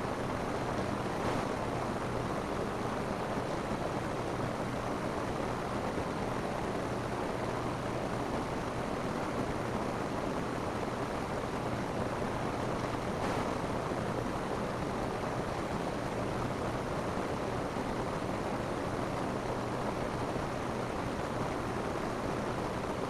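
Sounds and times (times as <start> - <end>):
rain on a roof: 0.0 - 23.0.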